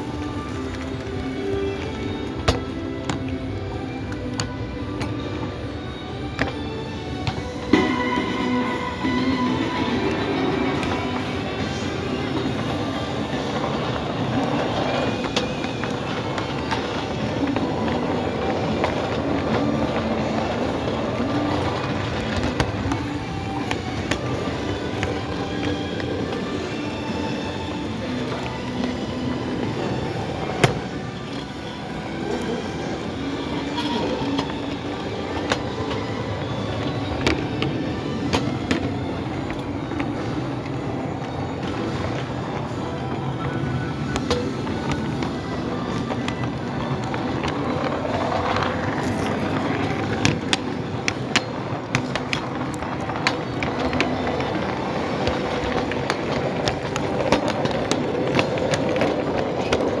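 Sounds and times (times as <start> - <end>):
wheels clicking over rail joints: 0.0 - 60.0.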